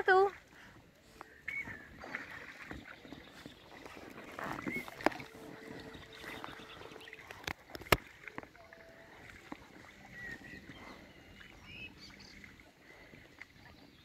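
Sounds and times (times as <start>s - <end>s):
paddle splashes and drips: 0.0s - 14.0s.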